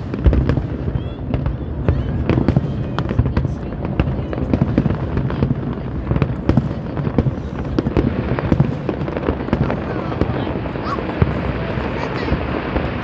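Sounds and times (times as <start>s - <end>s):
continuous rumble: 0.0s - 13.0s
fireworks bangs and crackles: 0.0s - 13.0s.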